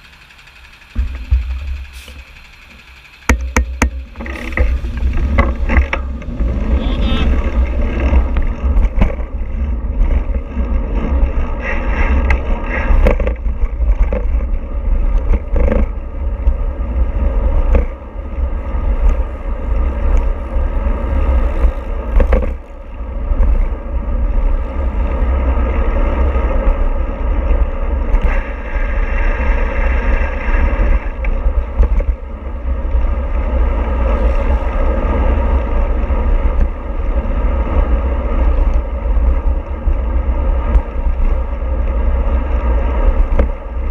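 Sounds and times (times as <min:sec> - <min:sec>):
vehicle running with low rumble: 0:00.0 - 0:43.9.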